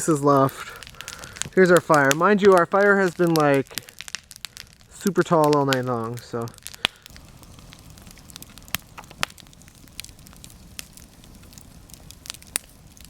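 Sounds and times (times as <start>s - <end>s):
fire crackling and popping: 0.0s - 13.0s
flame rushing: 0.5s - 2.4s, 3.1s - 5.1s, 5.8s - 13.0s.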